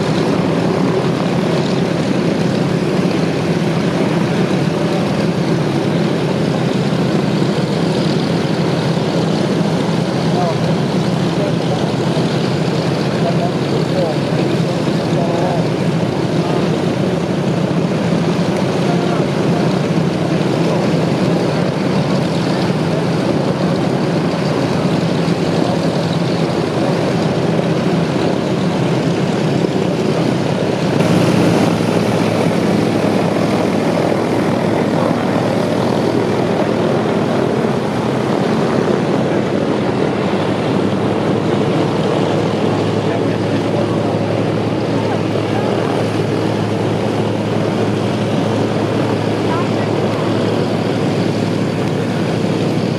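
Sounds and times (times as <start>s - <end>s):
propeller aircraft engines running: 0.0s - 52.9s.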